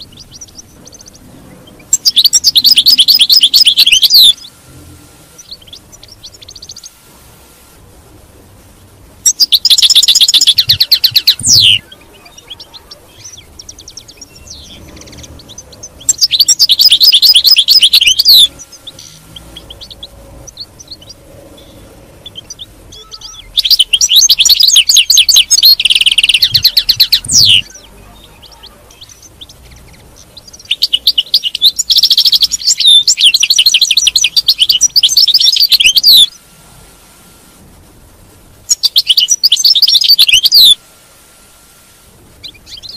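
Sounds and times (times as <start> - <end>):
goldfinch twittering song: 0.0 - 4.6, 5.4 - 7.0, 9.2 - 36.4, 38.7 - 40.8, 42.4 - 42.9.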